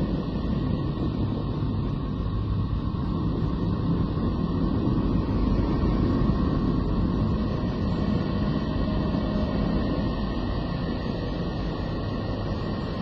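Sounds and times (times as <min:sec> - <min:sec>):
deep rough drone: 0:00.0 - 0:13.0.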